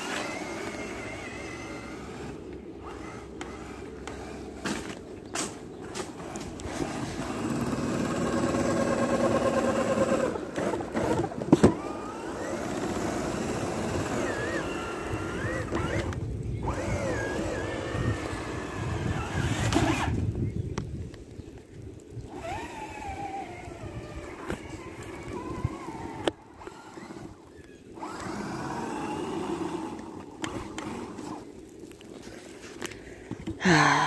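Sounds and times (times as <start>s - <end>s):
toy car motor whining: 0.0s - 5.0s, 6.1s - 20.4s, 22.3s - 31.5s.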